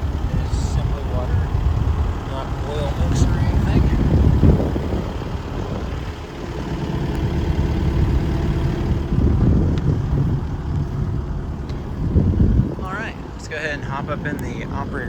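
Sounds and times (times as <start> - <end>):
diesel excavator engine idling: 0.0 - 15.0.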